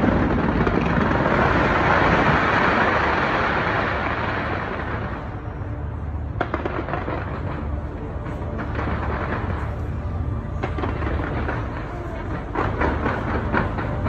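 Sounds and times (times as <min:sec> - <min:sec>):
distant fireworks crackling rumble: 0:00.0 - 0:14.0.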